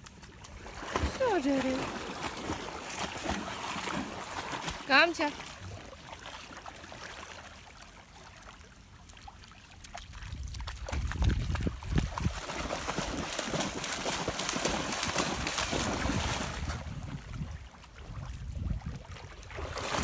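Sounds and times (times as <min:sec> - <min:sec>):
dogs splashing through water: 0:00.0 - 0:20.0.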